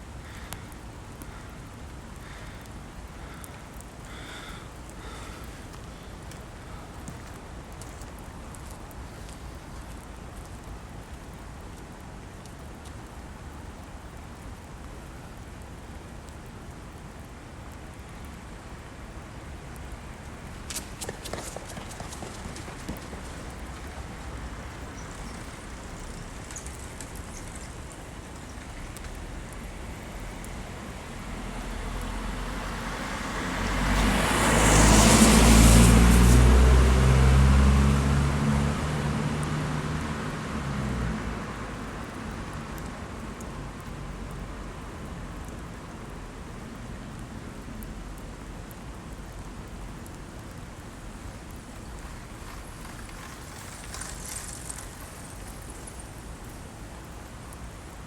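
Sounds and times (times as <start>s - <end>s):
rain hiss: 0.0s - 58.0s
vehicle passing on wet road: 0.0s - 58.0s.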